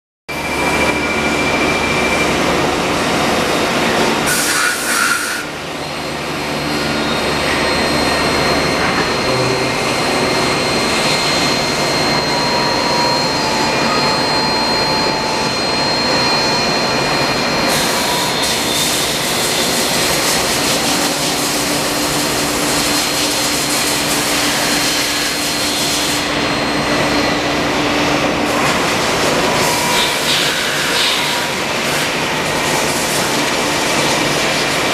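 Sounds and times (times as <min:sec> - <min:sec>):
lathe running: 0:00.3 - 0:34.9
machine whining: 0:00.3 - 0:34.9.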